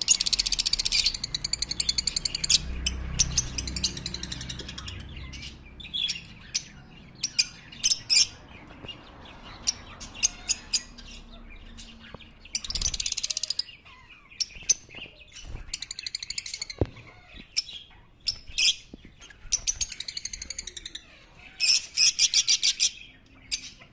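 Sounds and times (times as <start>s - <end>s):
lovebirds chirping: 0.0s - 23.9s
rapid bird chattering: 0.0s - 23.9s.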